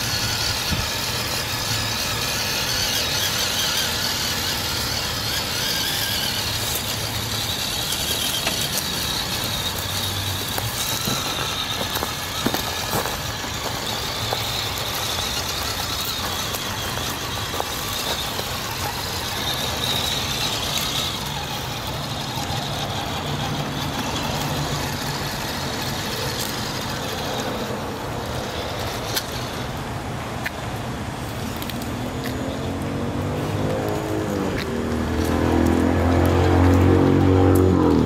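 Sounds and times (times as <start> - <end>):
tyres clicking on wood chips: 0.0 - 30.8, 31.4 - 38.0
toy car electric motor running: 0.0 - 38.0.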